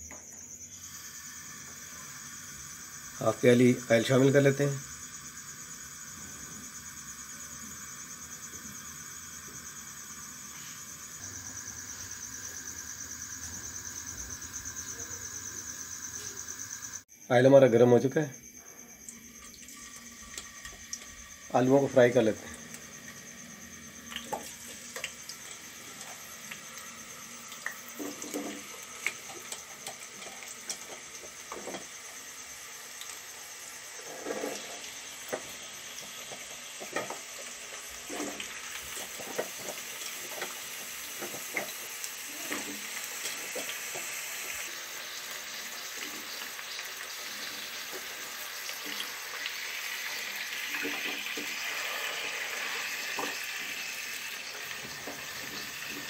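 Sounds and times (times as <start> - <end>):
frying oil sizzling: 0.0 - 17.0, 19.0 - 56.0.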